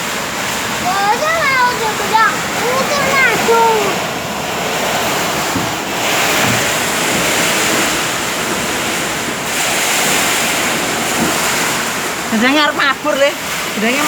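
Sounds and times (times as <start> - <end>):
storm wind gusting: 0.0 - 14.0
wind buffeting microphone: 0.0 - 14.0.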